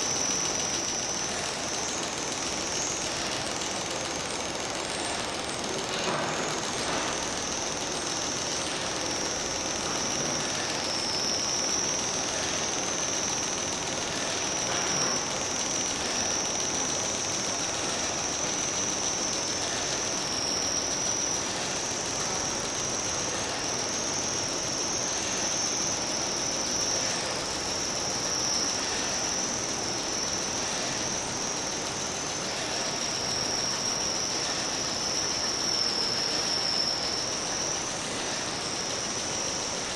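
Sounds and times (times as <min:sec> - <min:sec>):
small electric motors squealing: 0:00.0 - 0:39.9
dense rattling hiss: 0:05.4 - 0:39.9.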